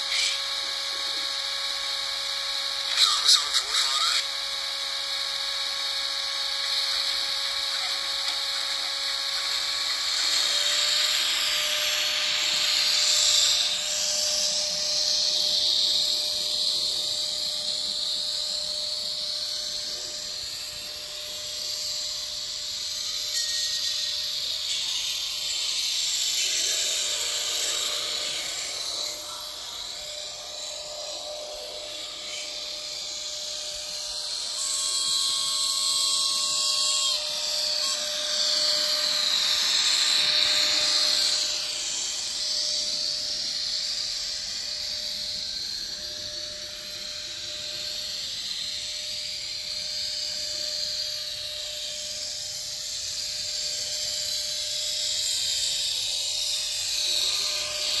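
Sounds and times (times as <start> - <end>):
electric motor whine: 0.0 - 58.0.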